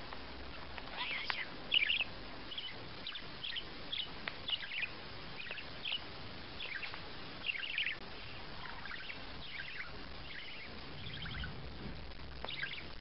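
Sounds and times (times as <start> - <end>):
background hiss: 0.0 - 13.0
budgerigar chirping: 0.9 - 11.6, 12.4 - 13.0.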